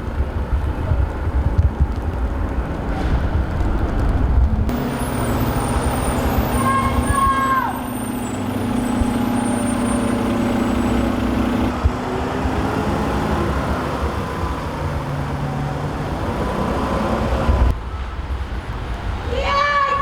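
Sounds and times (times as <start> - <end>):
heavy vehicle engine humming: 0.0 - 18.0
city street traffic: 0.0 - 20.0.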